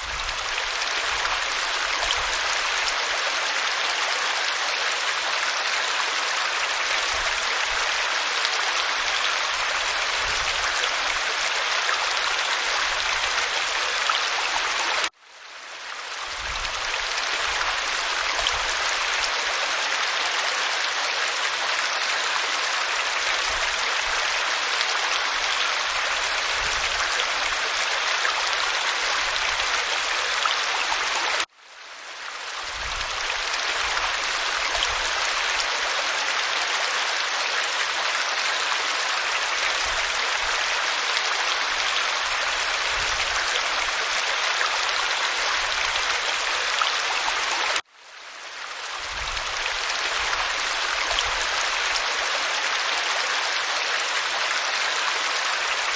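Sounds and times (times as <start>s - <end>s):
waterfall pouring over rock: 0.0s - 15.2s, 15.8s - 31.5s, 32.1s - 47.9s, 48.5s - 55.9s.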